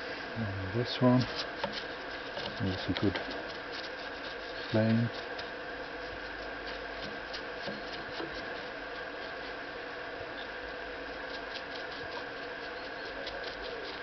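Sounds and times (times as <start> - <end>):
steady hum: 0.0 - 14.0
hands rubbing and scraping machine: 1.1 - 9.6, 11.2 - 14.0.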